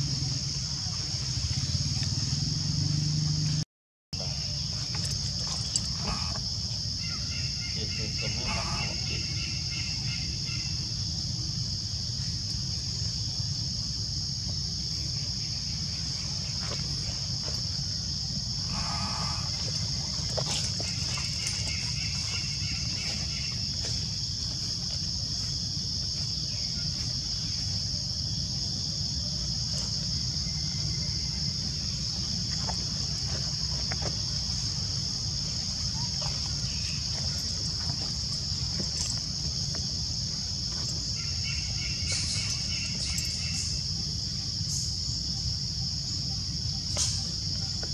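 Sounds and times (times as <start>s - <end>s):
high-pitched insect chorus: 0.0s - 3.6s, 4.2s - 47.9s.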